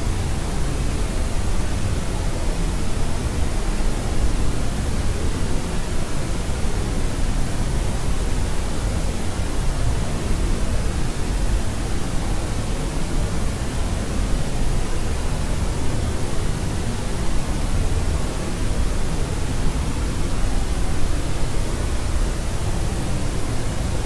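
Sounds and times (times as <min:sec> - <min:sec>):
deep white noise: 0:00.0 - 0:24.0.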